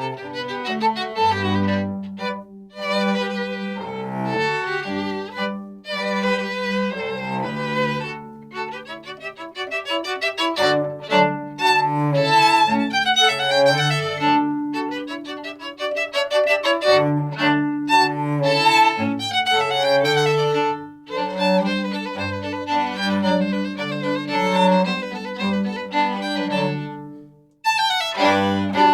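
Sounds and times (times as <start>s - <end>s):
string ensemble playing: 0.0s - 28.9s.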